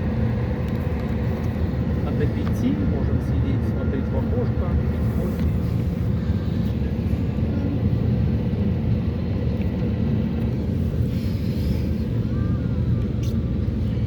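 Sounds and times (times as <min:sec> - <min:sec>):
car engine: 0:00.0 - 0:14.0
road rumble: 0:00.0 - 0:14.0.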